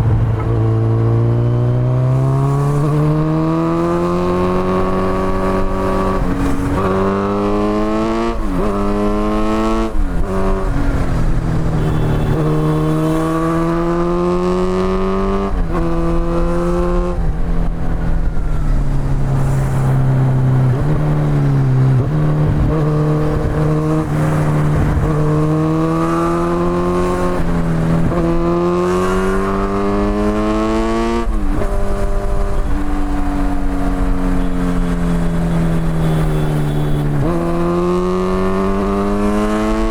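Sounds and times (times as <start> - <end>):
motorcycle engine accelerating through gears: 0.0 - 39.9.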